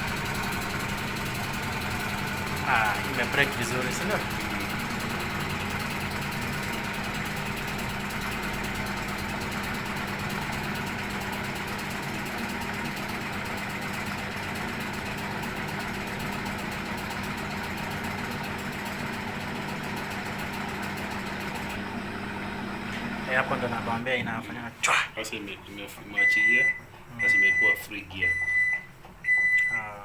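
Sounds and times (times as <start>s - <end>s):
washing machine motor humming: 0.0s - 25.5s, 26.1s - 30.0s.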